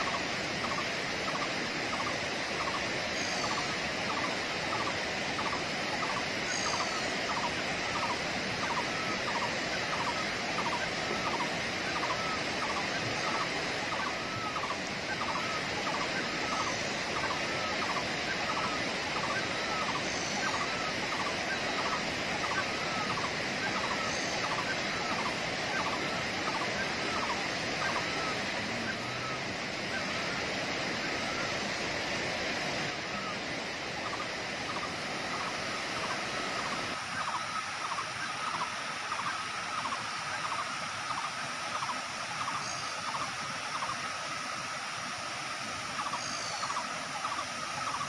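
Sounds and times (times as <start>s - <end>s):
water rushing over waterfall: 0.0s - 48.0s.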